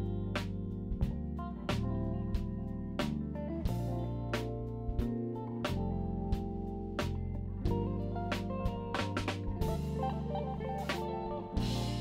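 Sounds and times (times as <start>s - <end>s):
guitar music over steady beat: 0.0s - 12.0s.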